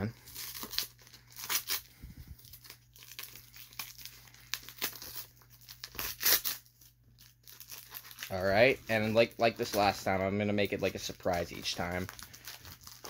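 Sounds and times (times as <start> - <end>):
paper ripping and crinkling: 0.1 - 13.0.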